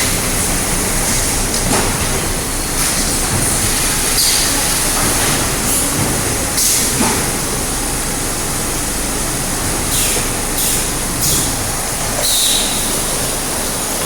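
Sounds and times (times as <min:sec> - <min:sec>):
packing machine running: 0:00.0 - 0:14.0.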